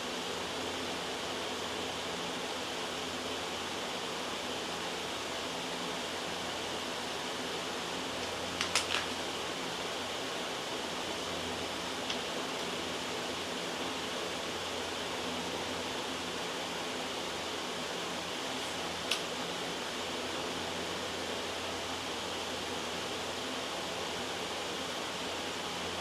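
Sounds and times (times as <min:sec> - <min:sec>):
loud white noise: 0:00.0 - 0:26.0.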